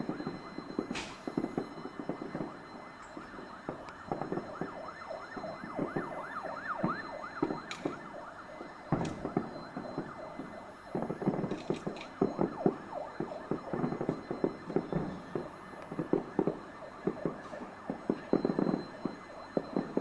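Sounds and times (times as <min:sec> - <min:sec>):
fireworks whistles: 0:00.0 - 0:08.2, 0:08.8 - 0:20.0
fireworks bangs and crackling: 0:00.0 - 0:20.0.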